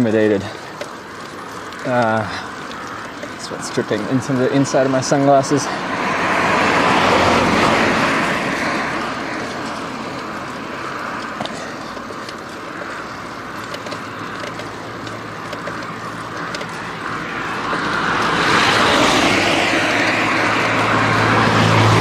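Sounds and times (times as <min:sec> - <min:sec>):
road and wind noise: 0:00.0 - 0:22.0
vehicle noise: 0:00.0 - 0:22.0
car passing close by: 0:01.8 - 0:22.0.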